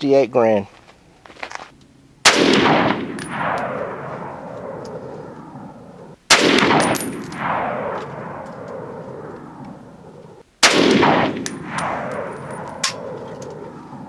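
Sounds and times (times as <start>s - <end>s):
rifle shots with rolling echo: 2.2s - 14.0s.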